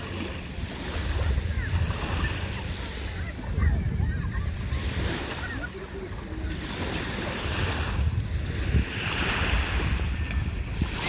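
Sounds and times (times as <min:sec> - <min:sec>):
sea waves washing onto shore: 0:00.0 - 0:11.0
wind rumbling on microphone: 0:00.0 - 0:11.0.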